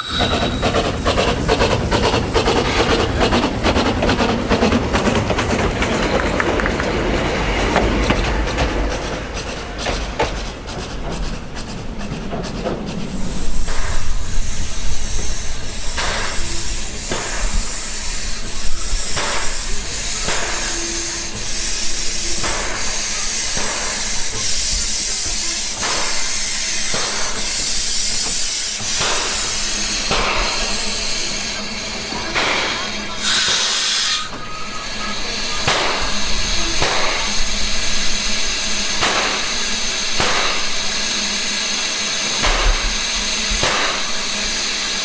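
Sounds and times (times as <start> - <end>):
low rumble of train moving: 0.0 - 45.0
steam hissing: 0.0 - 45.0.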